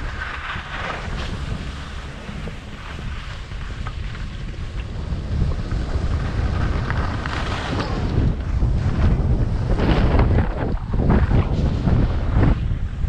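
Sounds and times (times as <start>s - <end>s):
skis scraping on snow: 0.0s - 13.0s
wind buffeting microphone: 0.0s - 13.0s.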